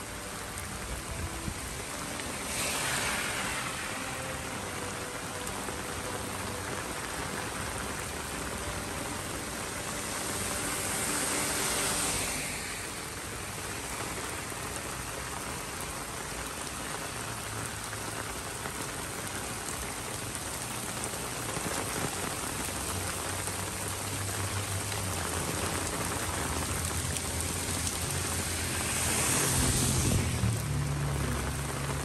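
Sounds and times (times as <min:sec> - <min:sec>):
heavy rain on street: 0:00.0 - 0:32.0.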